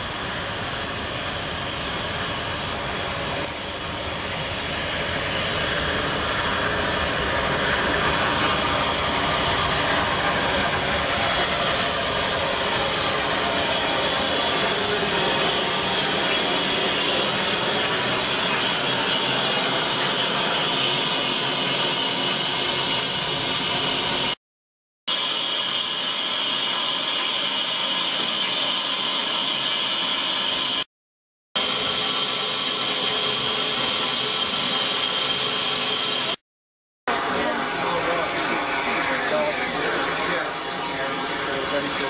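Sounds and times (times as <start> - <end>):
locomotive steam hissing: 0.0 - 24.4, 31.6 - 36.4, 37.1 - 42.0.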